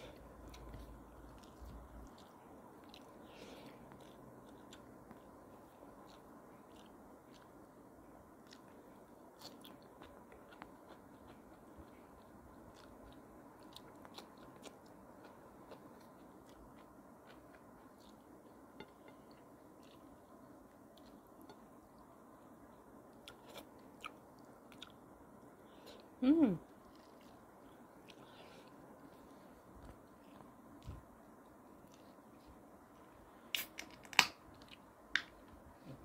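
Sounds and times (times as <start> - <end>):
faint chewing: 0.0 - 36.0.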